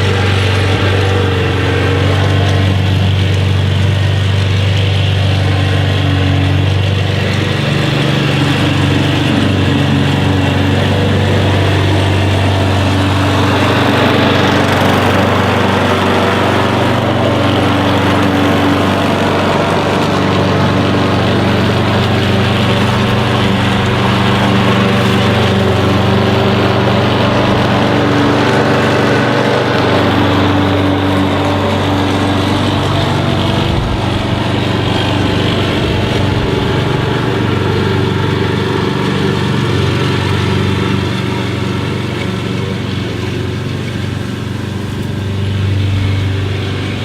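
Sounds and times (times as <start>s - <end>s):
engine running steadily: 0.0s - 47.0s.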